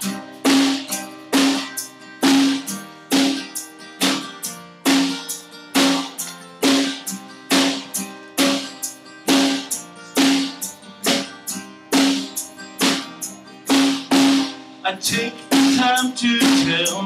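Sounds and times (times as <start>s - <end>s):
live band playing instrumental: 0.0s - 14.5s
drum kit steady beat: 0.0s - 17.0s.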